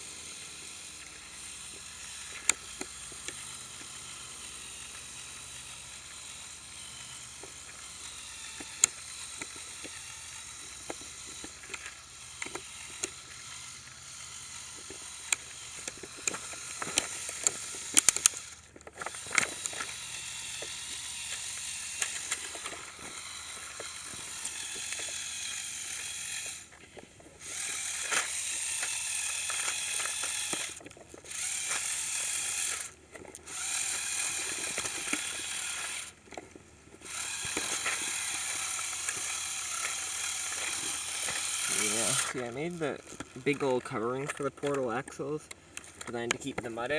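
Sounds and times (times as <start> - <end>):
gears clicking: 0.0 - 26.8, 27.4 - 46.9
toy truck motor whining: 0.0 - 46.9.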